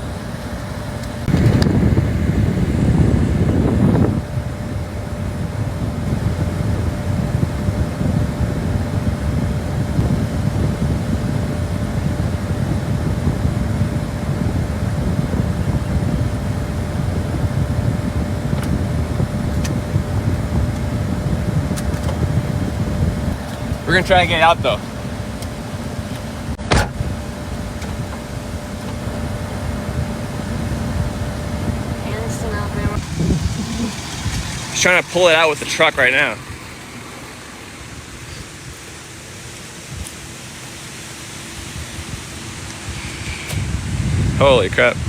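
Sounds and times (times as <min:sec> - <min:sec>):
fan blowing: 0:00.0 - 0:45.0
vehicle engine rumble: 0:00.0 - 0:45.0.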